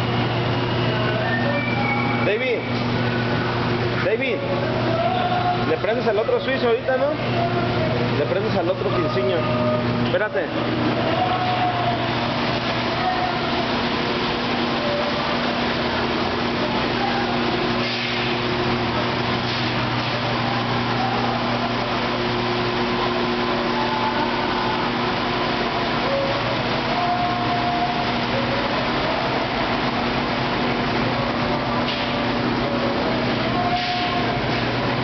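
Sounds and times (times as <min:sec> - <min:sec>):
electric pumps humming: 0:00.0 - 0:35.0
water spraying through nozzles: 0:00.0 - 0:35.0.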